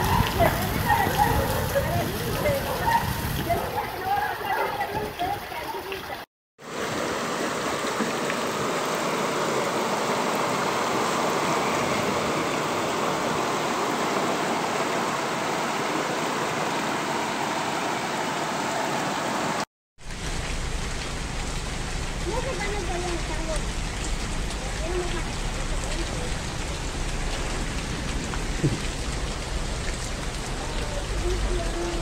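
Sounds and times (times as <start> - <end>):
floodwater rushing: 0.0 - 32.0
rain falling: 0.0 - 32.0.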